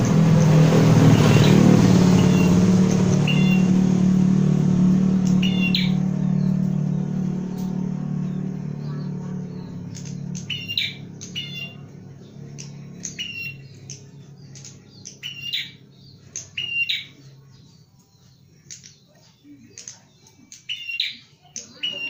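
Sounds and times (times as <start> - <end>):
low hum: 0.0 - 18.1
bird chirping: 0.0 - 22.0.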